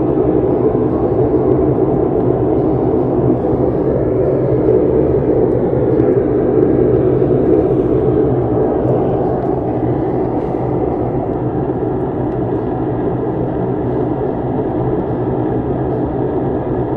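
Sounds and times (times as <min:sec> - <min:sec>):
low droning rumble: 0:00.0 - 0:16.9.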